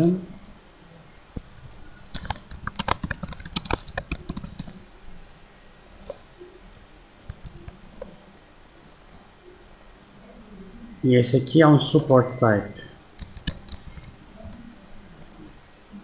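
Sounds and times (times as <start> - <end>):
computer keyboard typing: 0.0 - 4.9, 5.8 - 10.0, 12.0 - 15.8.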